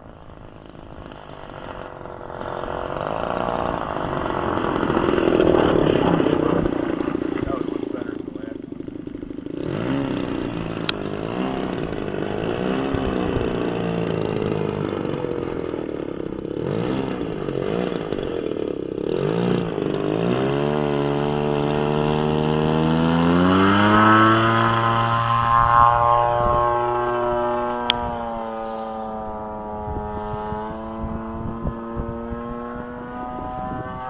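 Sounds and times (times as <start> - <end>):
model airplane engine: 0.0 - 34.0.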